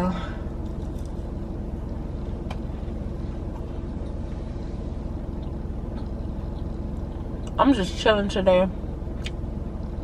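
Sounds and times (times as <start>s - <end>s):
low rumbling hum: 0.0s - 10.0s.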